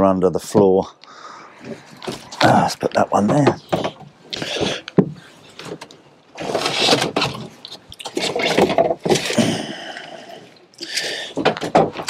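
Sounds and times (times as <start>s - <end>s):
fishing rods scraping and rustling: 1.5s - 11.5s.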